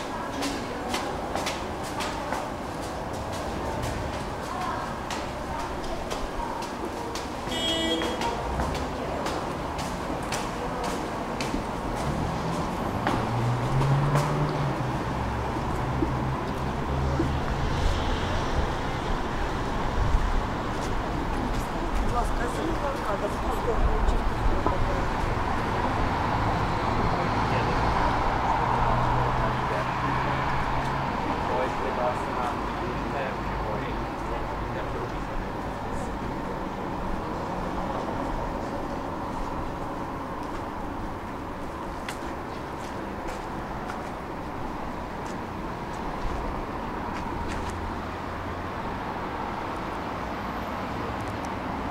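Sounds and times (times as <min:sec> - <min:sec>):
tram rumbling on track: 0:00.0 - 0:51.9.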